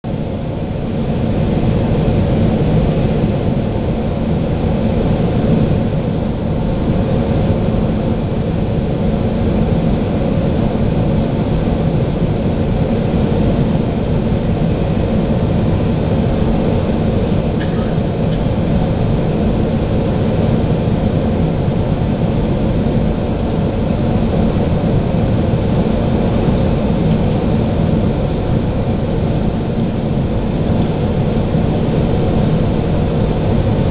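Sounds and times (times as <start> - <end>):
airplane cabin engine and airflow noise: 0.0 - 33.9.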